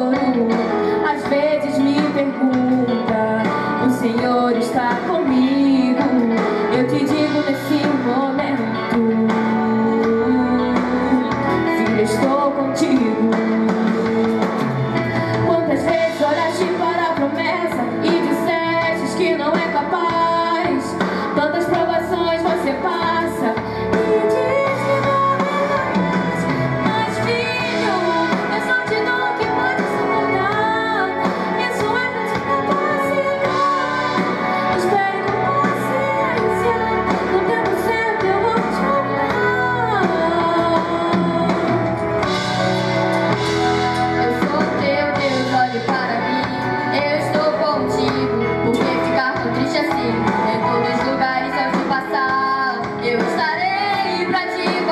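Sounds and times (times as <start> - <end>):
instrumental accompaniment: 0.0 - 54.9
woman singing into microphone: 0.0 - 54.9.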